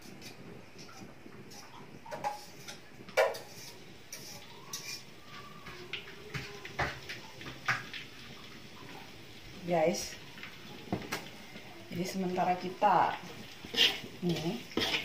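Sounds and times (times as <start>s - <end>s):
paste sizzling in oil: 0.0s - 15.0s.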